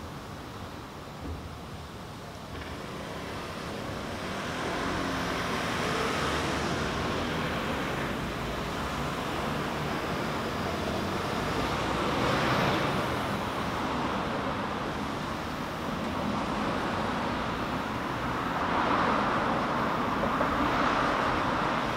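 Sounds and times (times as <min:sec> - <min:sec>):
cars passing close by: 0:02.5 - 0:21.9.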